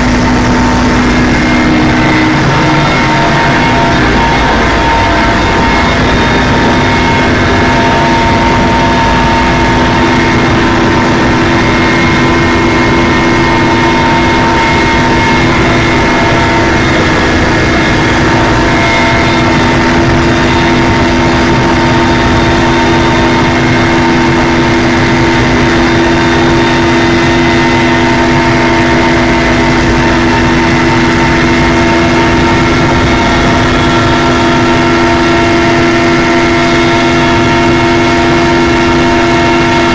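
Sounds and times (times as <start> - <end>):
helicopter engine and rotor: 0.0 - 39.9
whining tones: 0.0 - 39.9.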